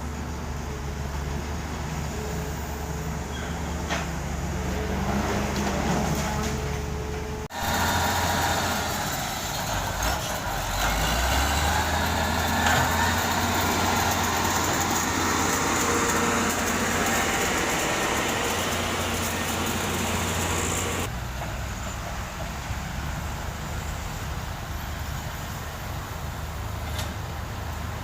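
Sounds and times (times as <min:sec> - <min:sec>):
diesel machinery engine hum: 0:00.0 - 0:28.0.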